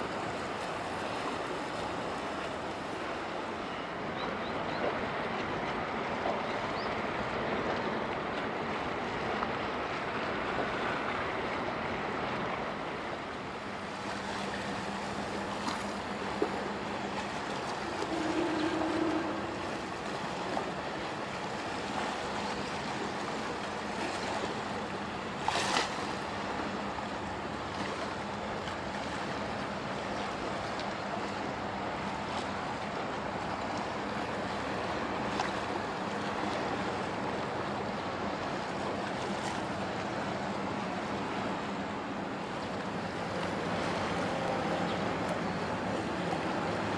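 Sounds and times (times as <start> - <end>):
sea water washing ashore: 0.0 - 46.9
wind: 0.0 - 46.9.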